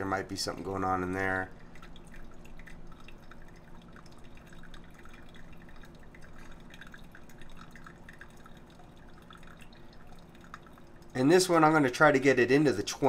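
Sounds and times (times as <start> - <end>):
faint steady hum: 0.0 - 13.0
water pouring onto coffee grounds: 0.4 - 13.0.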